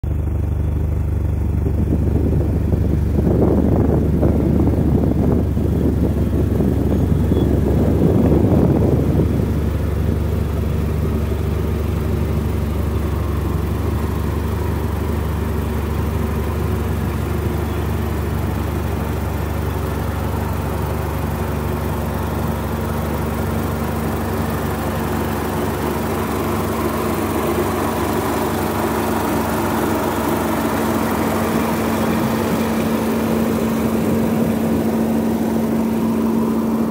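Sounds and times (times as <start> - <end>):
car engine at low revs: 0.0 - 36.9
rough car exhaust: 0.0 - 36.9.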